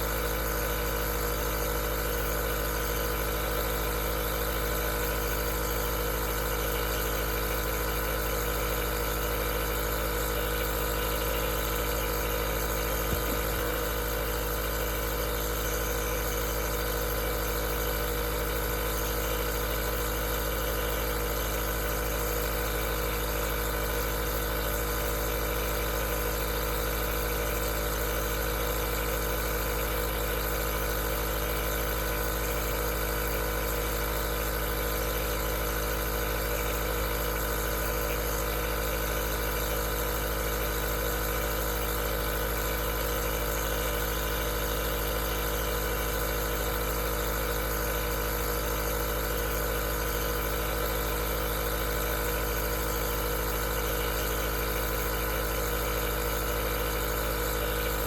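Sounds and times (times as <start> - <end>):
nebulizer compressor humming: 0.0 - 58.0.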